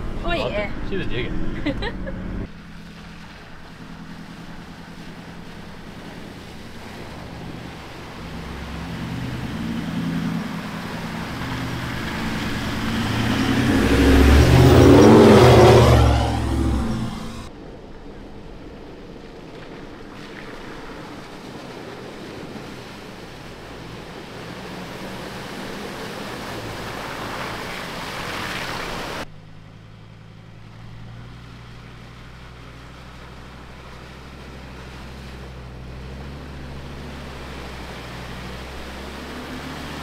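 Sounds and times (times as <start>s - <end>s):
car engines running: 0.0s - 40.0s
water splashing around tyres: 1.6s - 40.0s.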